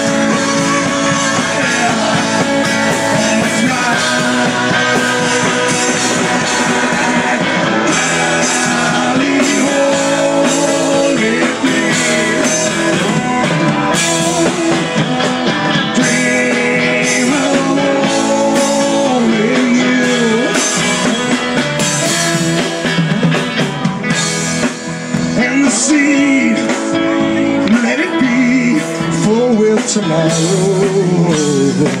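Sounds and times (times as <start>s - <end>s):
drums and cymbals: 0.0s - 32.0s
electric guitar lead notes: 0.0s - 32.0s.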